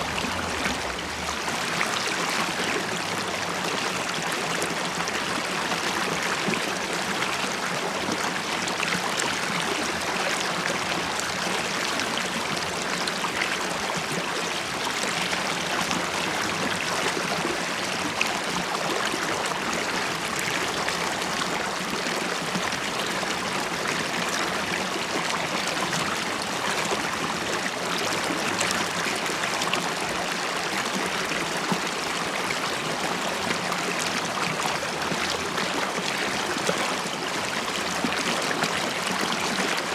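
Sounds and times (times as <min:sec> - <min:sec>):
river water flowing and burbling: 0:00.0 - 0:39.9.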